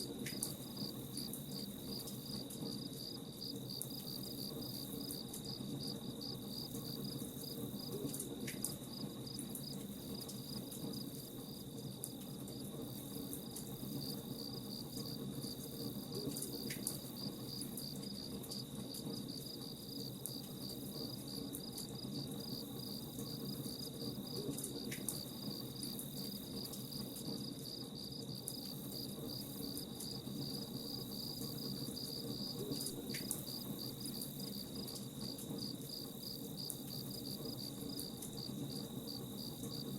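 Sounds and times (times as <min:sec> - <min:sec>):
crickets chirping: 0:00.3 - 0:39.9.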